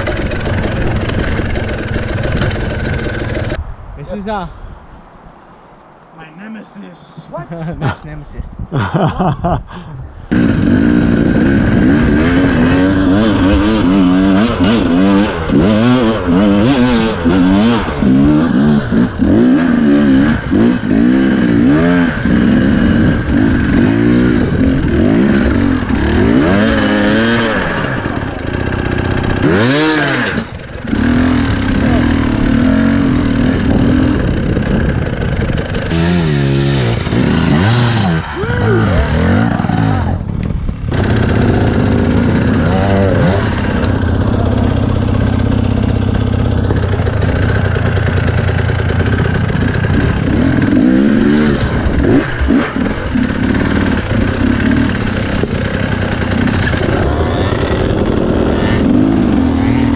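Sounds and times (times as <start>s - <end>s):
dirt bike engine revving: 0.0s - 3.6s, 10.3s - 59.9s.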